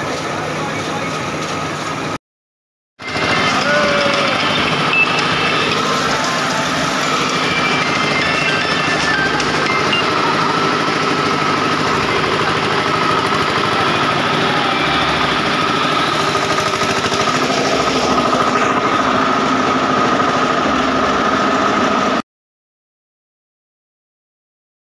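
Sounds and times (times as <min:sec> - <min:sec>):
tractor engine running: 0:00.0 - 0:02.2, 0:03.0 - 0:22.2.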